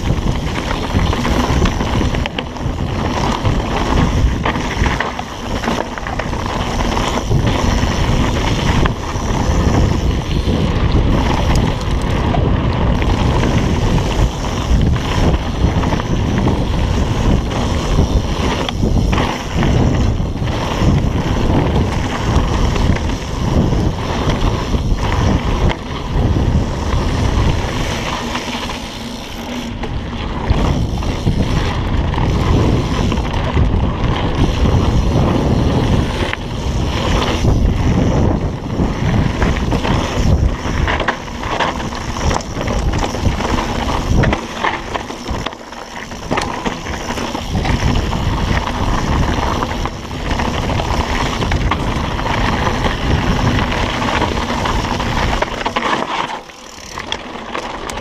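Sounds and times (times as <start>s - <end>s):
wind on microphone: 0.0s - 56.0s
bike rattling and knocking: 0.0s - 58.0s
tyres rolling on dirt: 0.0s - 58.0s.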